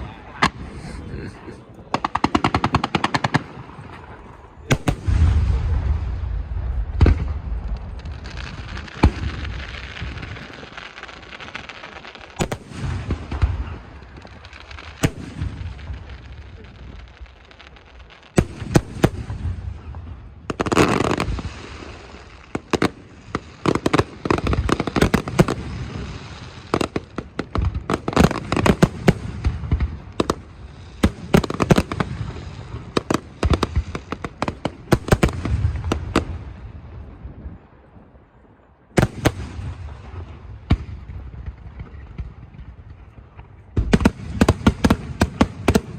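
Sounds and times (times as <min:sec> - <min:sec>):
fireworks crackling: 0:00.0 - 0:37.7, 0:39.0 - 0:45.9
fireworks booming and bangs: 0:00.0 - 0:45.9.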